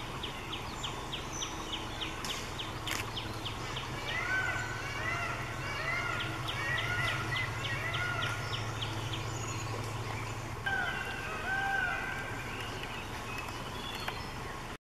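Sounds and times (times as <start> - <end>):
birds chirping and whistling: 0.0 - 14.8
steady low hum: 0.0 - 14.8.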